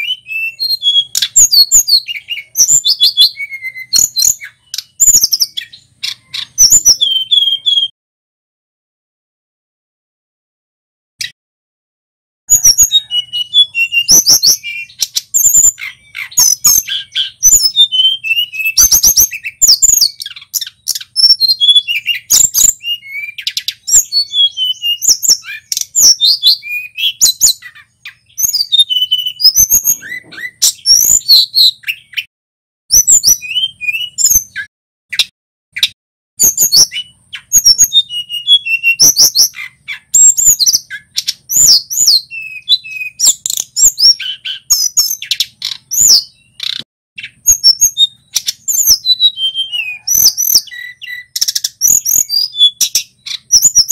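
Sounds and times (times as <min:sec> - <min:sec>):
songbird singing: 0:00.0 - 0:07.9, 0:12.5 - 0:32.3, 0:32.9 - 0:53.9.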